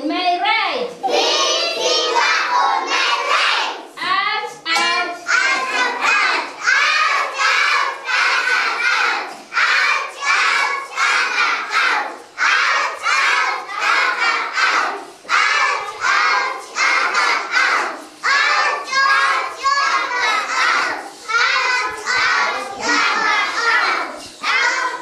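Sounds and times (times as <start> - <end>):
children chanting in unison: 1.0 - 25.0.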